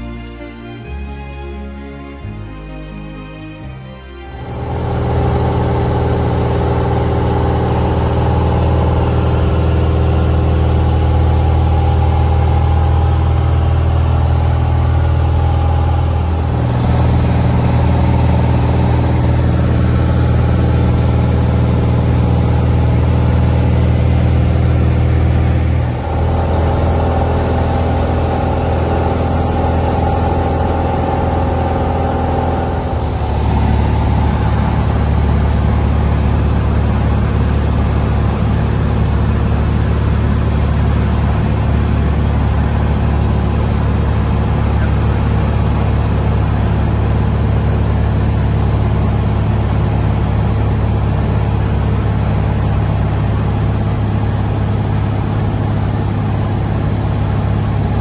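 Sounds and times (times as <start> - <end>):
propeller plane engine drone: 0.0 - 58.0.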